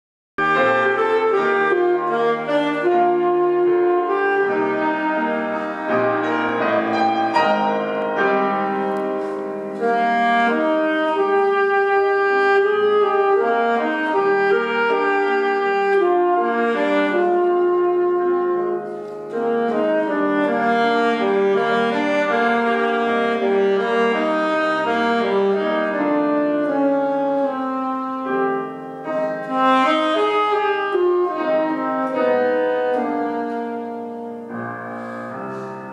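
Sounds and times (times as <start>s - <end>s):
alto saxophone melody: 0.4s - 35.9s
piano accompaniment: 0.4s - 35.9s.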